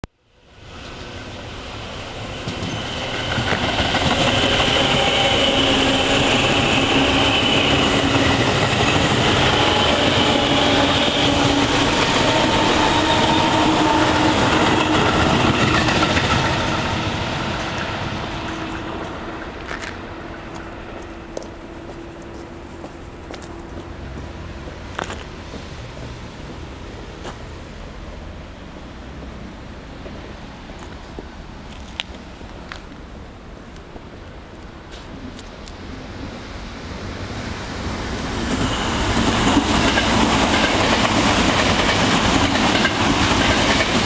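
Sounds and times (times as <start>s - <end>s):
electric train passing: 0.2s - 44.0s.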